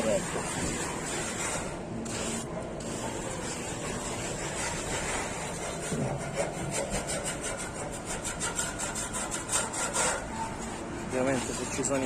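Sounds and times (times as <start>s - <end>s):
sponge float scraping plaster: 0.0s - 12.0s.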